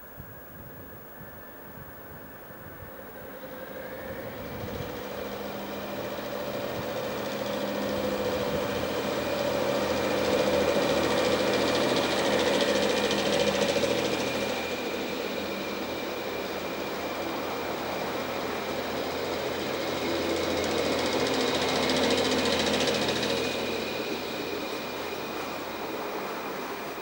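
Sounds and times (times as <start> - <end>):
diesel railcar passing: 1.1 - 27.0.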